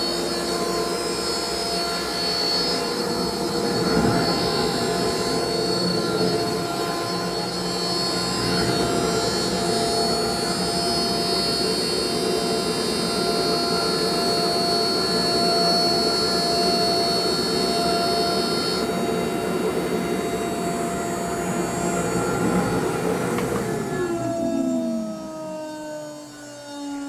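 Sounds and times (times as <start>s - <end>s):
router spindle high whine: 0.0s - 27.0s.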